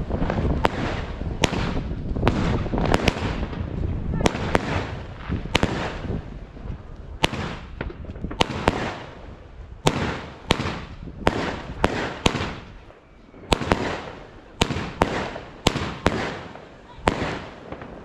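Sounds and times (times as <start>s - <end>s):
fireworks battery firing shots: 0.0s - 6.3s, 7.2s - 9.2s, 9.8s - 18.0s.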